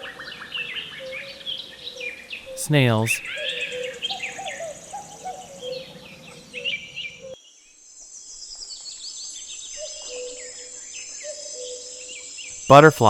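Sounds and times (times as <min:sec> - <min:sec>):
small birds chirping: 0:00.0 - 0:13.0
insects trilling: 0:00.7 - 0:13.0.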